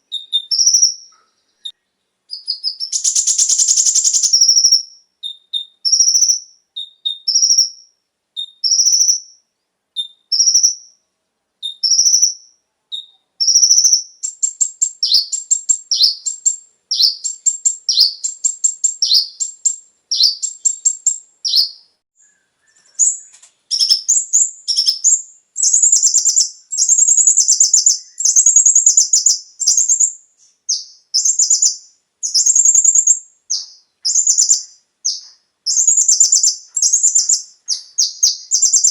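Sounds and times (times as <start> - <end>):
sunbird chirping and trilling: 0.0 - 11.0, 11.6 - 38.9.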